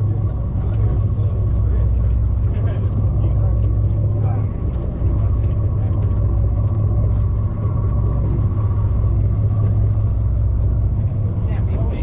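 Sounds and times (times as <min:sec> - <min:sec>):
boat engines rumbling: 0:00.0 - 0:12.0
faint steady whine: 0:00.0 - 0:12.0.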